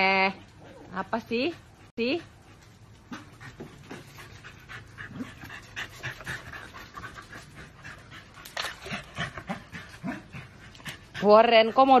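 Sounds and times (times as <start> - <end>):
dog panting: 0.3 - 12.0.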